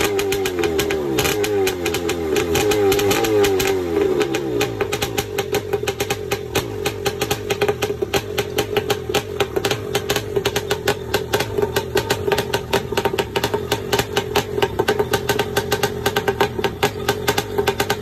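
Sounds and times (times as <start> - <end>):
two-stroke engine idling: 0.0 - 18.0.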